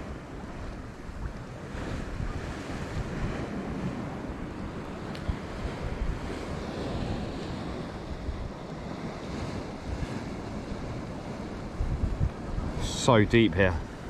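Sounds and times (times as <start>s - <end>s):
sea waves washing: 0.0s - 14.0s
wind buffeting microphone: 0.0s - 14.0s.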